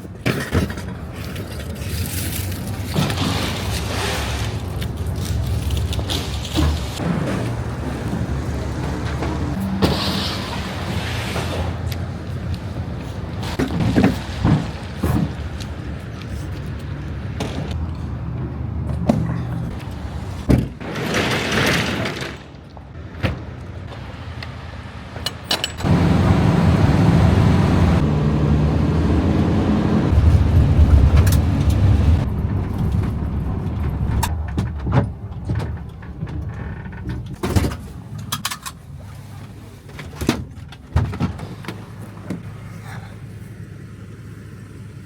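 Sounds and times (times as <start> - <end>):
vehicle engine rumbling: 0.0 - 20.9, 22.0 - 45.0.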